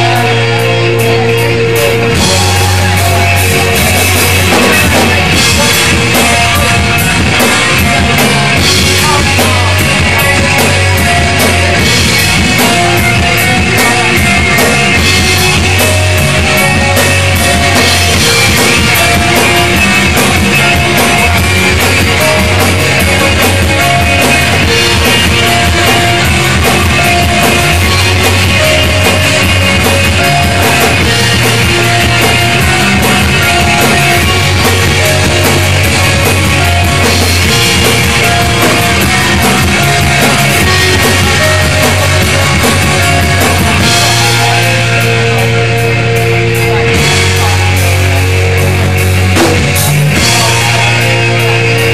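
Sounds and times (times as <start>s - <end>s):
drum kit beat: 0.0s - 51.9s
electric guitars: 0.0s - 51.9s.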